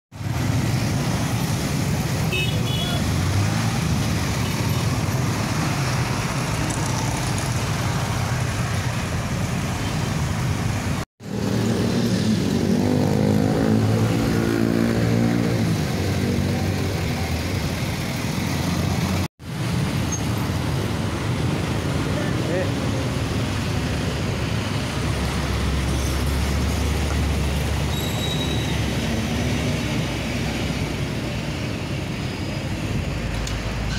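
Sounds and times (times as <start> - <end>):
road traffic engines: 0.1 - 33.9.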